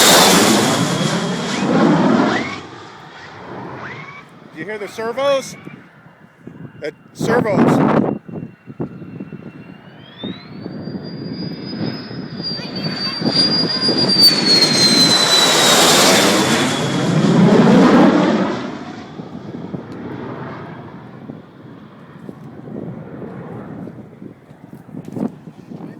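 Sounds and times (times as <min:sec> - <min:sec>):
fighter jet flying past: 0:00.0 - 0:25.5
high turbine whine: 0:00.0 - 0:25.9.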